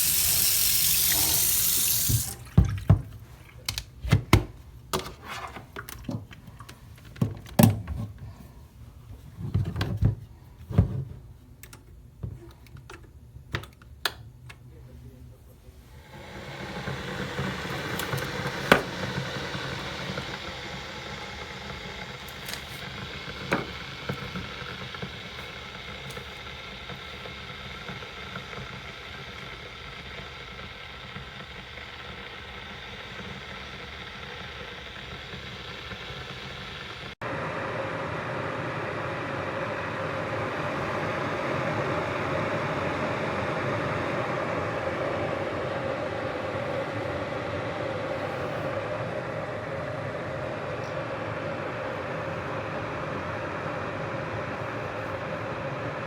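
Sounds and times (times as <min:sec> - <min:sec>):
electric kettle heating water: 0:00.0 - 0:05.0, 0:15.9 - 0:56.0.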